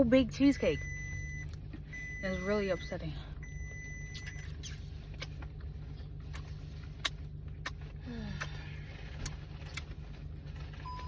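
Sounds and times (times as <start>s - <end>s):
car cabin hum: 0.0s - 11.0s.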